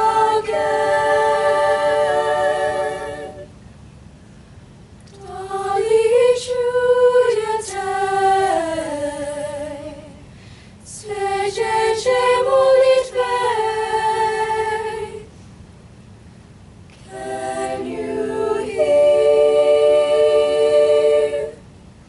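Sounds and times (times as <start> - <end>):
choir singing a cappella: 0.0 - 3.5, 5.2 - 10.3, 10.9 - 15.3, 17.0 - 21.7.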